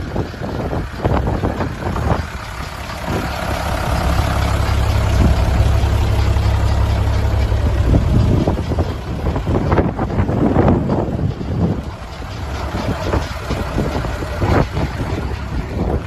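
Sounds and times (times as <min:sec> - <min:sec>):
truck diesel engine running: 0:00.0 - 0:16.0
wind noise on microphone: 0:00.0 - 0:16.0.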